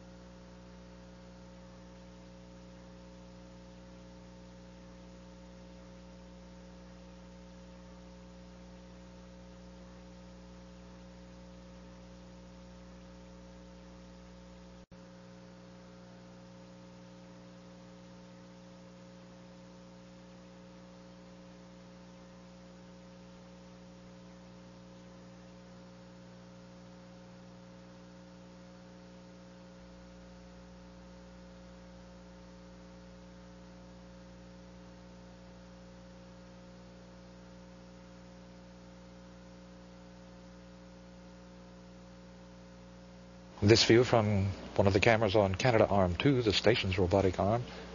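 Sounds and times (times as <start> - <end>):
faint electrical hum: 0.0 - 47.9
low hiss: 0.0 - 47.9.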